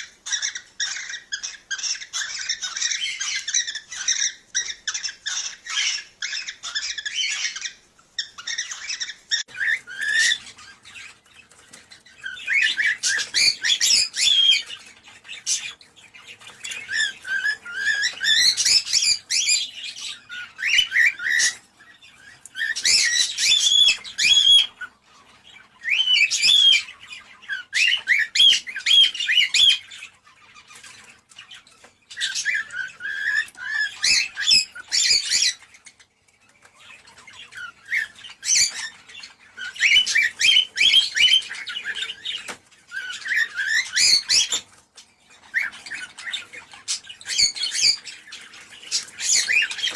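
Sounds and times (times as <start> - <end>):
cockatiels chirping and whistling: 0.0 - 49.9.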